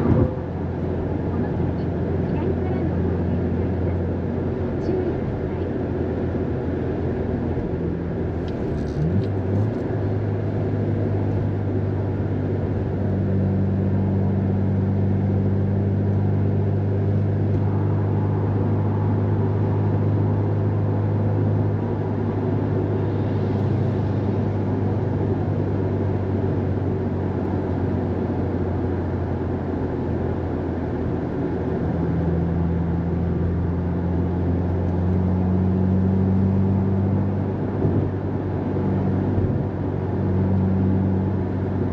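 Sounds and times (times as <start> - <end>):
car engine from inside cabin: 0.0 - 41.9
tyre and road noise: 0.0 - 41.9.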